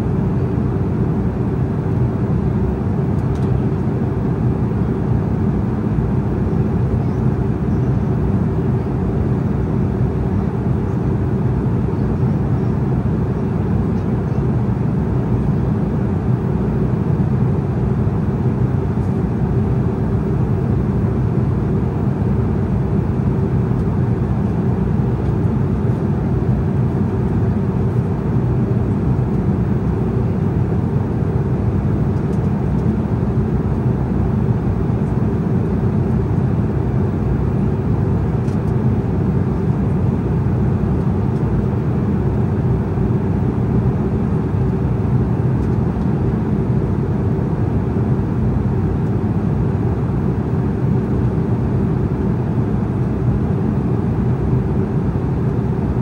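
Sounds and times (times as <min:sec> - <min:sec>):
airflow over fuselage: 0:00.0 - 0:56.0
jet engines rushing in cabin: 0:00.0 - 0:56.0.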